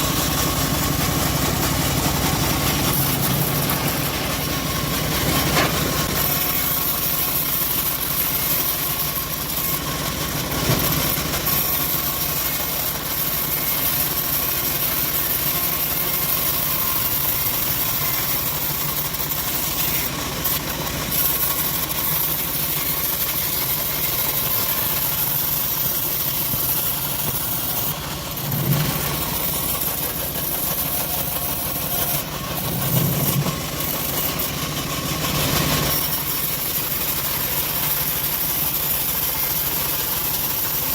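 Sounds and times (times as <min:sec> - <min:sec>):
bandsaw mill sawing logs: 0:00.0 - 0:40.9.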